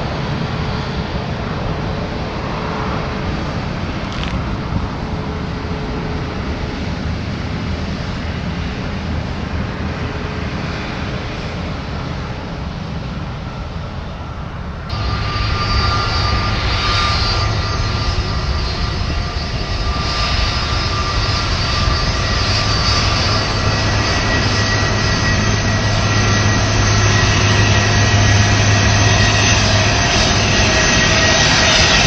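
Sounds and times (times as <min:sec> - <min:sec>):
jet engines whining: 0:00.0 - 0:32.0
low rumble: 0:00.0 - 0:32.0.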